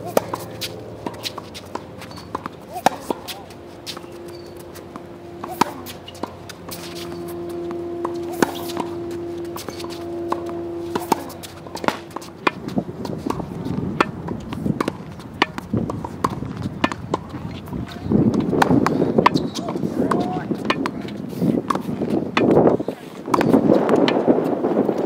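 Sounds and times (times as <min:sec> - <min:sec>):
low rumbling noise: 0:00.0 - 0:22.8
steady hum: 0:00.0 - 0:24.7
balls bouncing on hard court: 0:00.0 - 0:25.0
tennis balls struck by rackets: 0:00.0 - 0:25.0.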